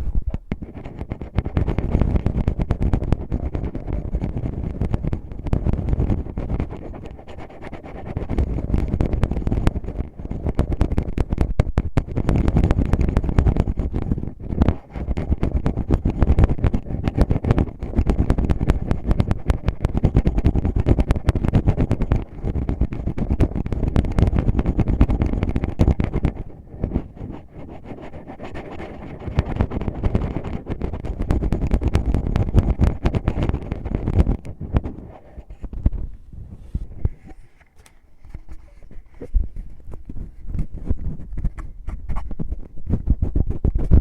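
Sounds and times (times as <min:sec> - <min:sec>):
fingertips scratching a microphone: 0:00.0 - 0:44.0.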